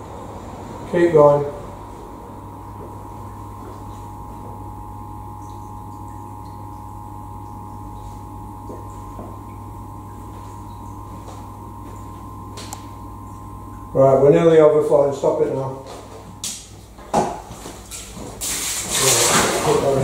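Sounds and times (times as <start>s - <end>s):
high whine: 0.0s - 16.7s
electric water pump humming: 0.0s - 20.0s.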